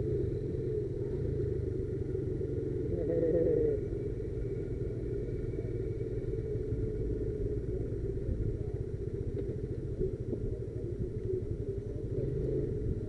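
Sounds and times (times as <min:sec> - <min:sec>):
motorcycle running: 0:00.0 - 0:13.0.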